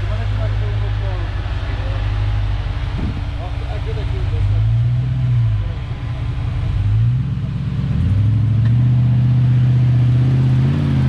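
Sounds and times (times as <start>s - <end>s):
pickup engine working at low speed: 0.0s - 11.0s.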